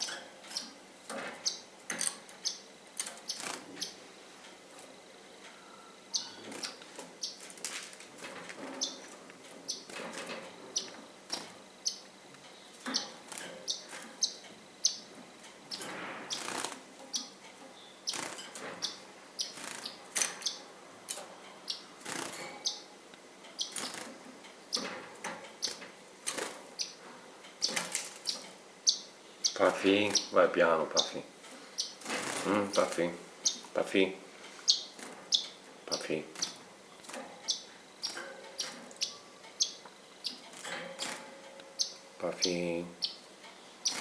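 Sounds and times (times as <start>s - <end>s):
pet birds chirping: 0.0s - 4.1s, 5.2s - 7.7s, 8.3s - 44.0s.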